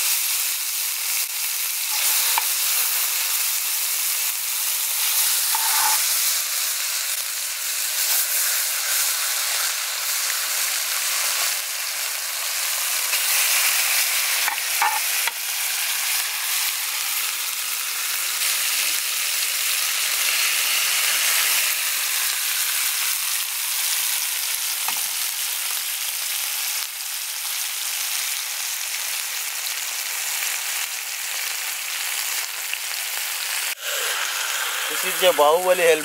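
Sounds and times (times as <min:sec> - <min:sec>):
fish sizzling in oil: 0:00.0 - 0:36.0.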